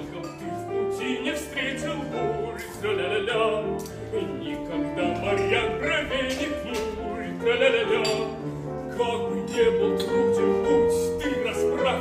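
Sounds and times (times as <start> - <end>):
operatic singing with vibrato: 0.0 - 12.0.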